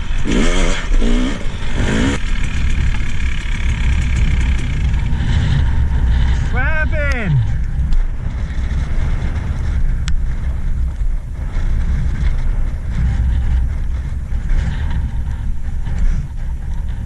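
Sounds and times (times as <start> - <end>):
dirt bike engine idling: 0.0 - 17.0
wind noise on microphone: 0.0 - 17.0.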